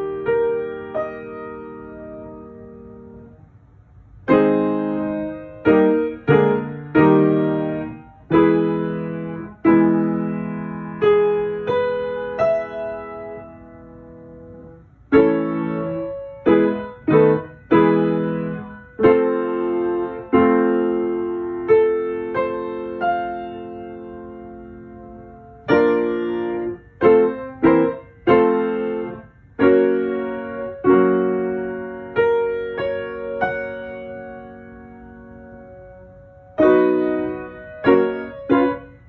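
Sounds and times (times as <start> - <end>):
piano chords ringing: 0.0 - 39.0.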